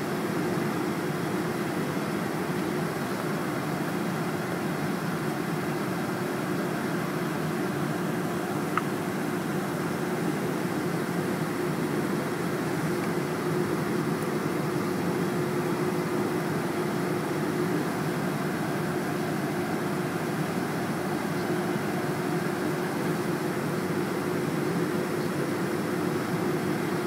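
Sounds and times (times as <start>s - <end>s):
jet airliner engine humming: 0.0s - 27.0s.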